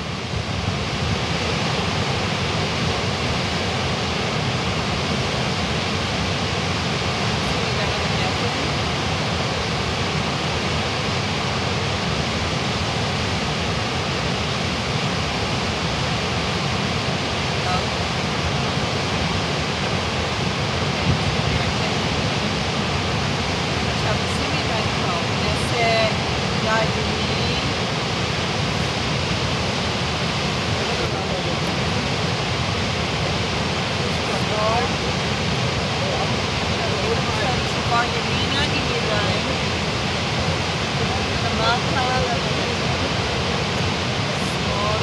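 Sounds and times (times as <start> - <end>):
waterfall rushing: 0.0 - 45.0
wind buffeting microphone: 0.0 - 45.0.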